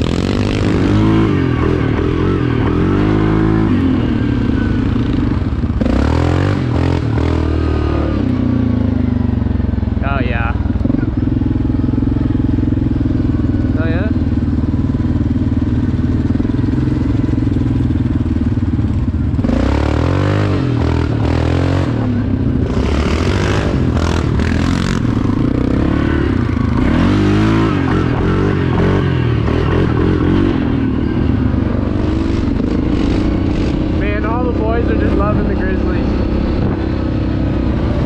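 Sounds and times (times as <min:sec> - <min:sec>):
atv engine revving: 0:00.0 - 0:38.0.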